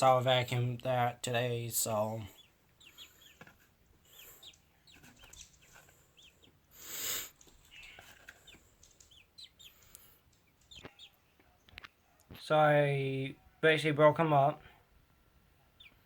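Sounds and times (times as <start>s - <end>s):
nestling birds peeping: 0.0s - 16.0s.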